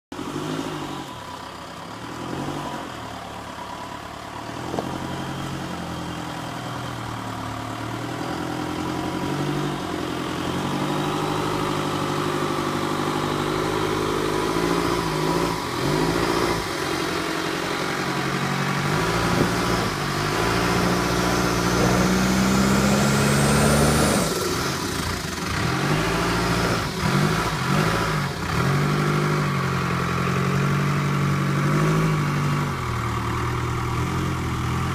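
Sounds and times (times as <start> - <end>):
diesel truck engine revving: 0.1 - 34.9.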